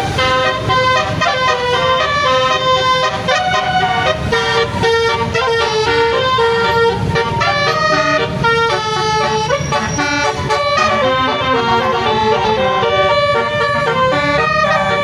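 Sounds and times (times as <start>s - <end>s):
multi-tone bus air horn melody: 0.0s - 15.0s.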